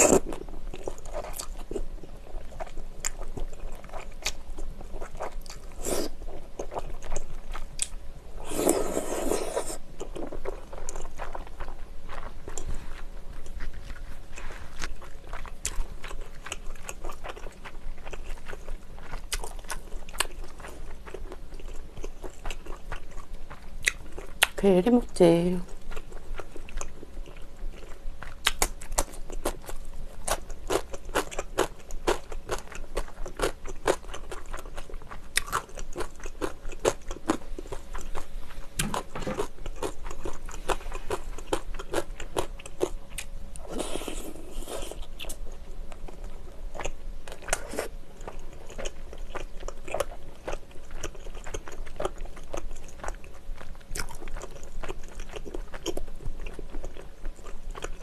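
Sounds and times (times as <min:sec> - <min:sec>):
person chewing food: 0:00.0 - 0:24.6, 0:25.7 - 0:58.0.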